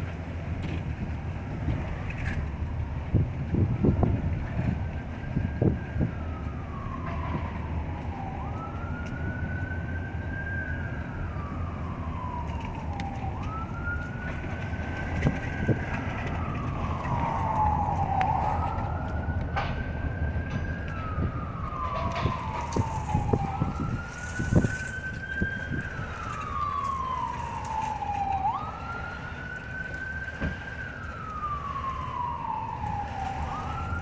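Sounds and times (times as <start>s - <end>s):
emergency siren wailing: 0.0s - 34.0s
traffic rumble: 0.0s - 34.0s.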